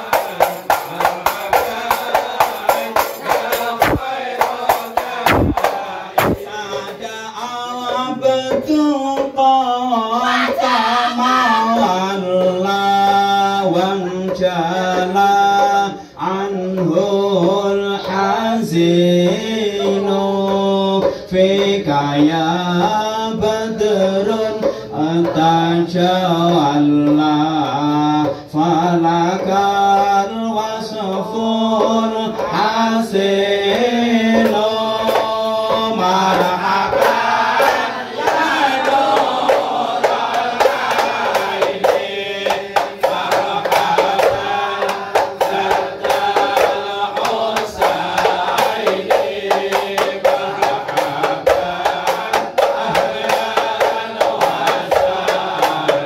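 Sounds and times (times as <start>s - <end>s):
frame drums fast beat: 0.0s - 56.0s
men chanting together: 0.0s - 56.0s.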